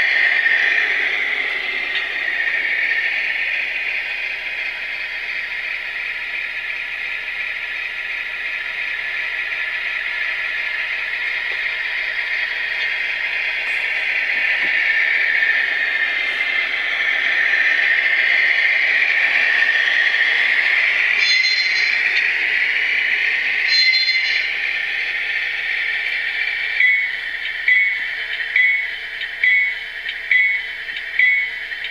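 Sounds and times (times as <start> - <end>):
diesel engine sound from small speaker: 0.0 - 31.9.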